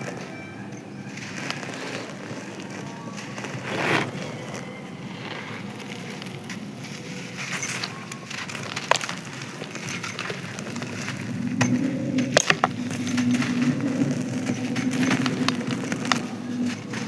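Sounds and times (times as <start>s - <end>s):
dry crust crunching and crumbling: 0.0s - 17.0s.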